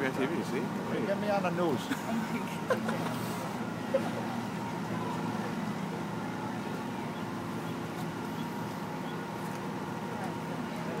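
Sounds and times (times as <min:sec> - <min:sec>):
city street noise: 0:00.0 - 0:11.0
engine idling: 0:00.0 - 0:11.0.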